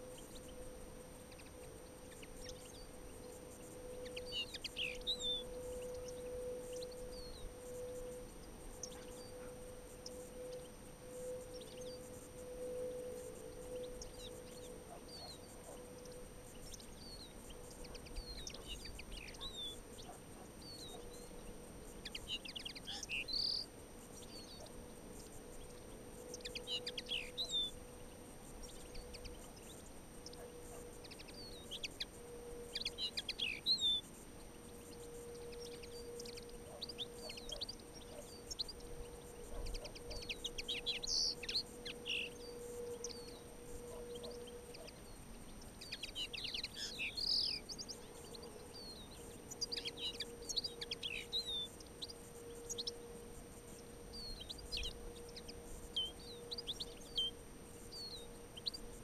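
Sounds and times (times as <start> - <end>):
faint steady hum: 0.0 - 59.0
songbirds chirping: 0.0 - 59.0.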